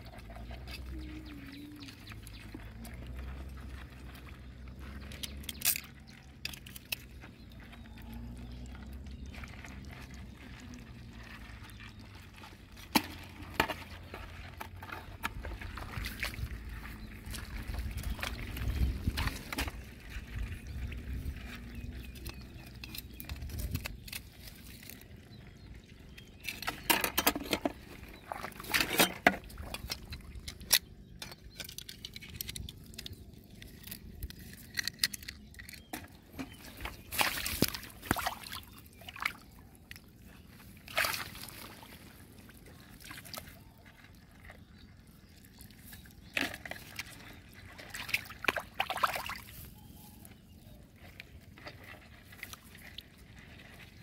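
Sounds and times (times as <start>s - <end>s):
muddy water sloshing and splashing: 0.0s - 54.0s.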